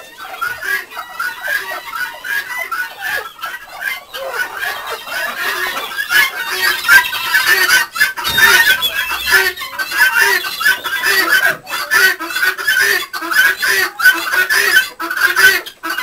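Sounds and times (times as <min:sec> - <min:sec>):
guineafowl cackling: 0:00.0 - 0:16.0.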